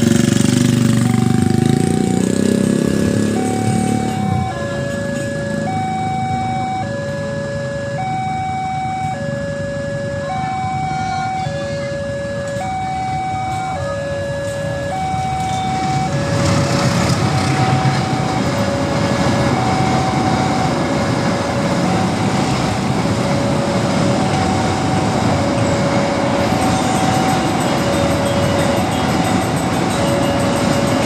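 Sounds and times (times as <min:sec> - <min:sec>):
train rolling past: 0:00.0 - 0:07.4, 0:12.5 - 0:31.0
level crossing alarm: 0:00.6 - 0:31.0.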